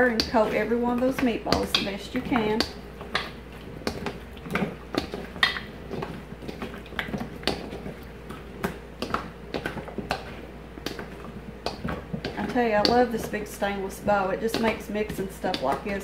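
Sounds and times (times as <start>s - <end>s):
meatballs knocking against metal bowl: 0.0s - 16.0s.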